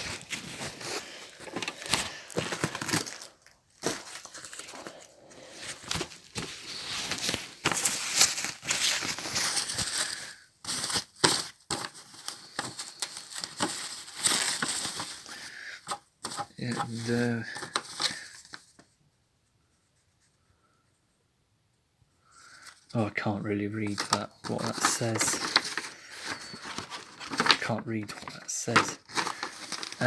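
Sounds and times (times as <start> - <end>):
packaging crinkling: 0.0 - 18.8, 23.8 - 30.0.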